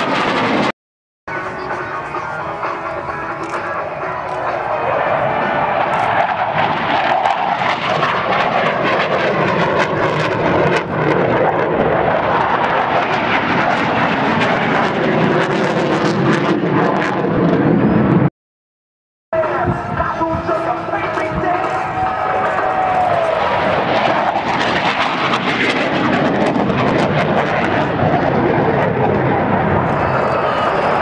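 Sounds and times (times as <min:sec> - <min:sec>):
airplane engine rushing past: 0:00.0 - 0:00.7, 0:01.3 - 0:18.3, 0:19.4 - 0:31.0.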